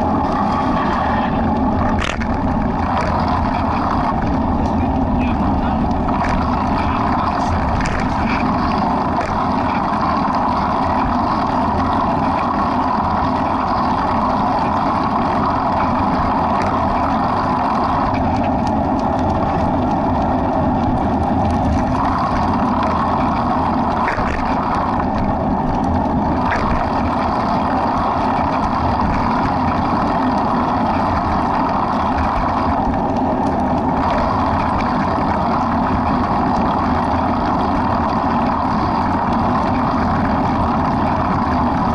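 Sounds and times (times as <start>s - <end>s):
wind rushing on microphone: 0.0s - 41.9s.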